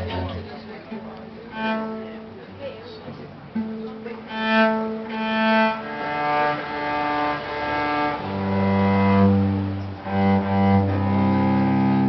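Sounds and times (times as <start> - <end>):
cello bowed in slow notes: 0.0 - 2.4, 3.6 - 12.0.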